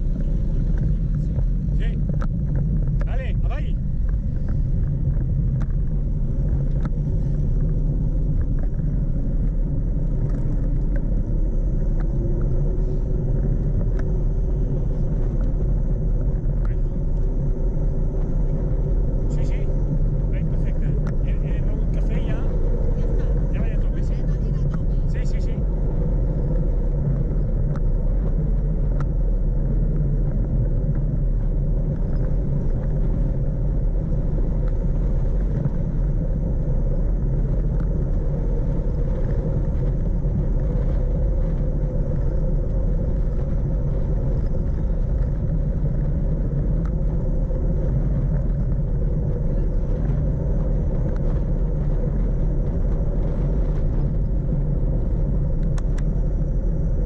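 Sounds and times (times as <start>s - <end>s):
tyres humming on asphalt: 0.0s - 57.0s
wind rumble on microphone: 0.0s - 57.0s.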